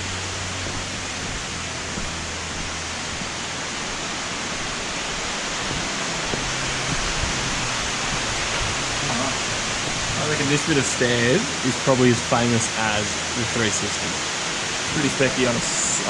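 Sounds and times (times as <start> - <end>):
falling water roaring: 0.0 - 16.0.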